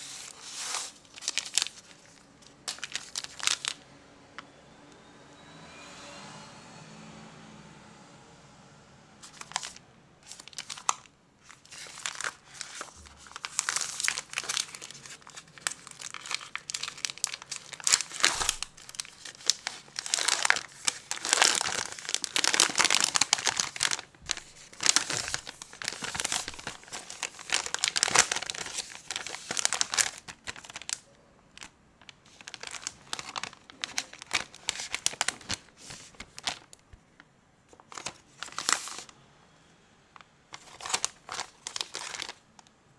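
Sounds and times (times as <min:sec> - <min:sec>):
chocolate wrapper crinkling: 0:00.0 - 0:03.8, 0:09.2 - 0:36.8, 0:37.7 - 0:39.1, 0:40.6 - 0:42.4.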